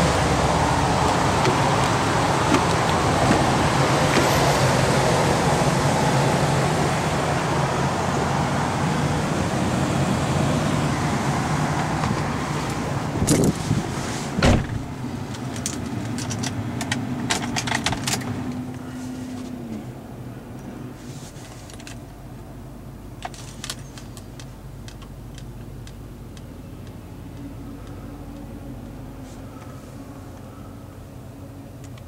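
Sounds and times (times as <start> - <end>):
low hum in truck cab: 0.0 - 32.0.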